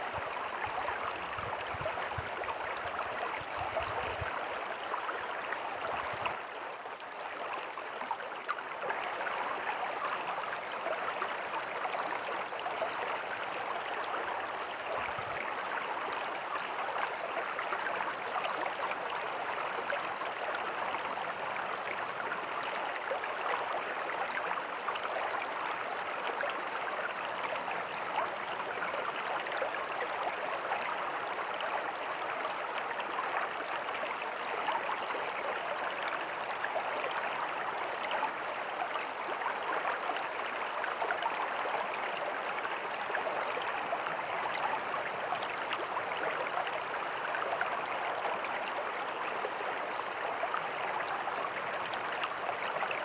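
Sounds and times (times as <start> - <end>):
creek flowing over rocks: 0.0 - 53.0.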